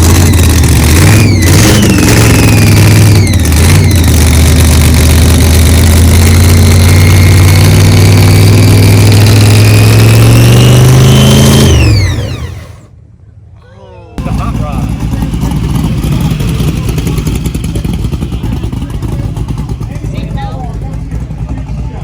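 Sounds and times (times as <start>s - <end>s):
car engine accelerating: 0.0s - 13.0s, 14.2s - 22.0s.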